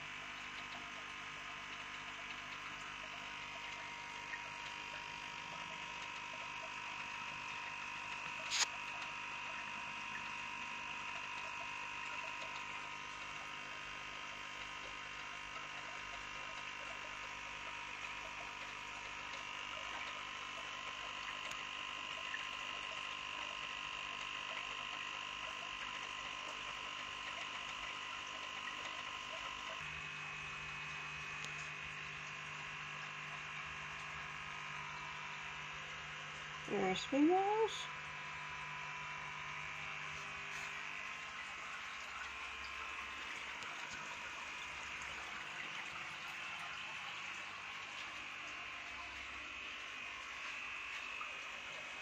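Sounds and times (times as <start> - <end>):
electrical hum with high whine: 0.0 - 52.0.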